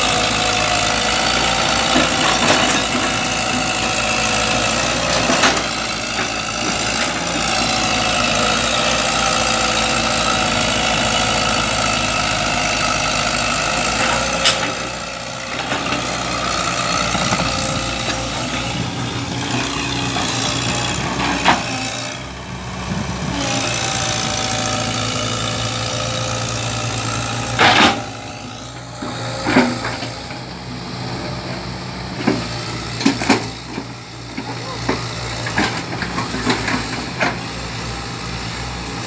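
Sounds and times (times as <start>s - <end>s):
diesel engine running: 0.0s - 39.0s
excavator knocks and clanks: 0.2s - 22.2s, 22.8s - 30.6s, 31.2s - 37.6s.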